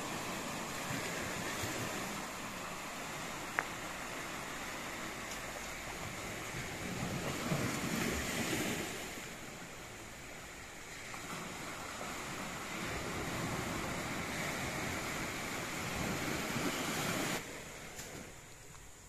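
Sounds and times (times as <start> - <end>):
waves breaking on shore: 0.0 - 18.7.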